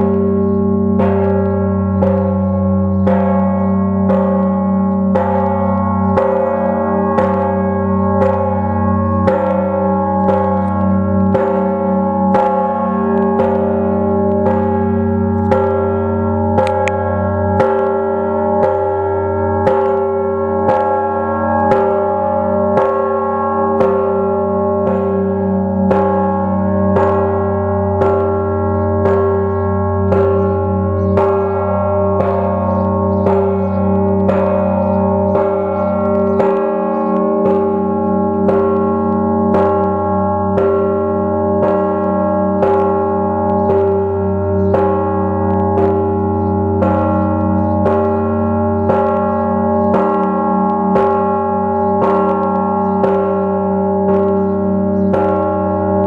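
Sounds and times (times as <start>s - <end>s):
large church bell ringing: 0.0s - 56.0s
other bells ringing: 0.0s - 56.0s.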